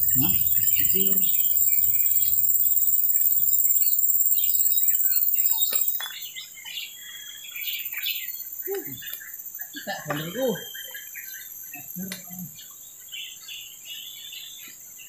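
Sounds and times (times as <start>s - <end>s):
high-pitched insect drone: 0.0s - 12.7s
birds chirping: 0.0s - 15.0s.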